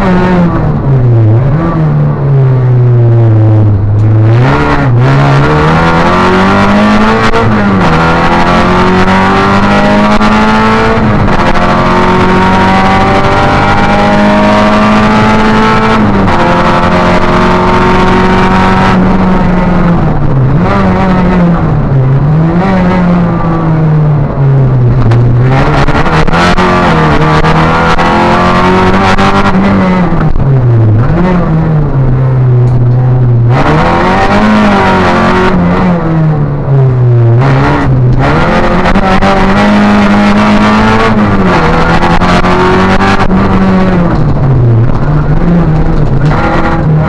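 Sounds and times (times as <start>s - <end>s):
rally car engine revving: 0.0s - 47.0s.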